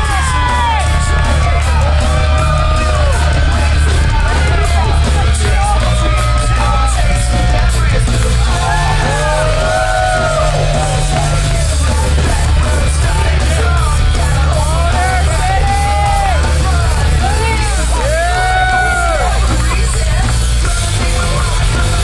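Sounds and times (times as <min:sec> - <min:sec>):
loud entrance music over speakers: 0:00.0 - 0:22.0
yelled vocals: 0:00.0 - 0:22.0.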